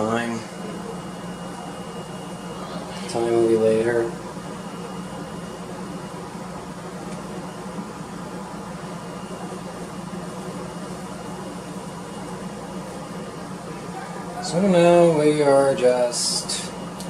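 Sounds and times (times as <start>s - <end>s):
computer fans whirring: 0.0s - 17.0s.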